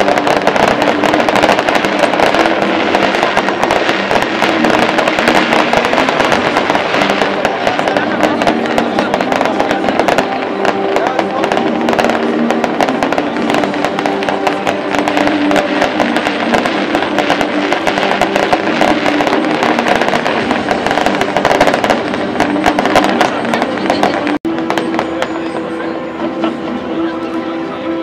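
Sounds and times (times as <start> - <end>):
fireworks bangs and crackles: 0.0 - 26.9
crowd talking: 0.0 - 28.0.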